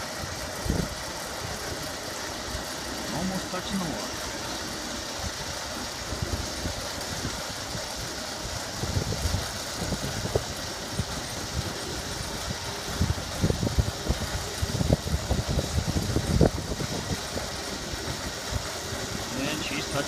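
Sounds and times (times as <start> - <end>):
boat lift engine running: 0.0 - 20.0.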